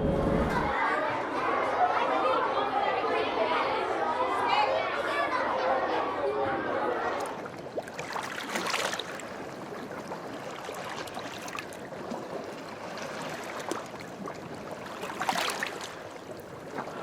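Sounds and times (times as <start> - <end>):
moving water surging: 0.0 - 17.0.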